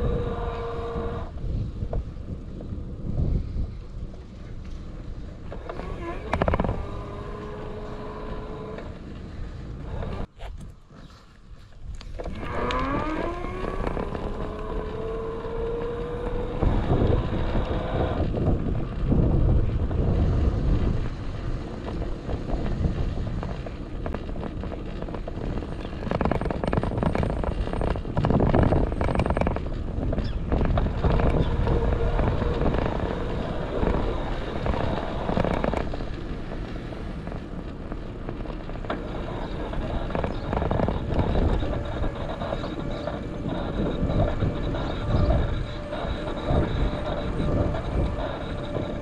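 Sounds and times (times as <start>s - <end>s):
bicycle rattles and knocks: 0.0s - 49.0s
wind buffeting camera: 0.0s - 49.0s.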